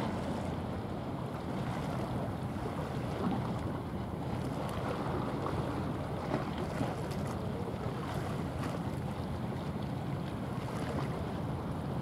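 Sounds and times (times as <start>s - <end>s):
ship engine rumble: 0.0s - 10.6s.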